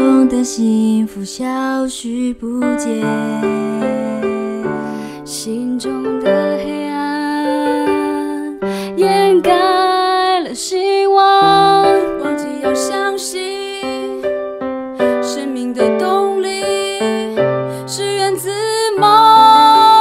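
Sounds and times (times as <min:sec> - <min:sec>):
piano and keyboard melody: 0:00.0 - 0:20.0.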